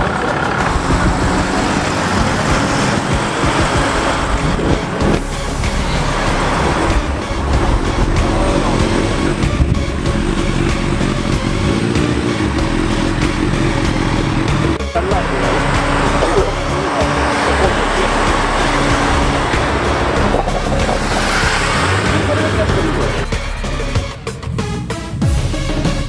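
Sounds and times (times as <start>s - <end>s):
motorcycles passing: 0.0s - 25.0s
car engines running: 0.0s - 26.0s.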